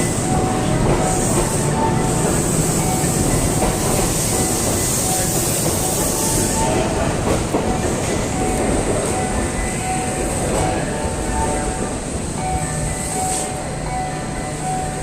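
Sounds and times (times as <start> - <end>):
train rail noise: 0.0 - 15.0.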